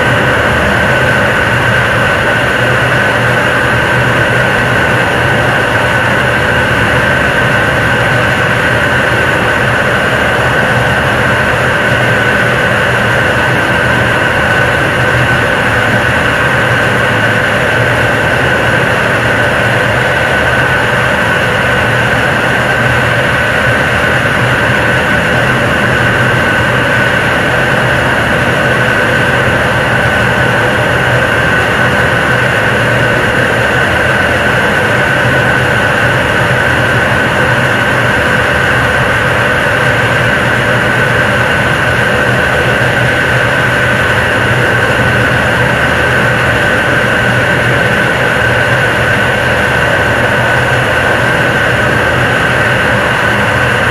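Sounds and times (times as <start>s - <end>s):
rocket engine roar: 0.0s - 53.9s.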